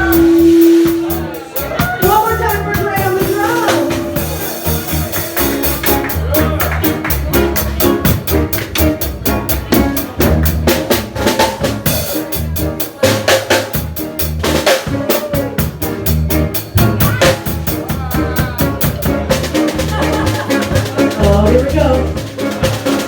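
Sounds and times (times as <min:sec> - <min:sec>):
bass line: 0:00.0 - 0:23.0
drum kit beat: 0:00.0 - 0:23.0
keyboard: 0:00.0 - 0:23.0.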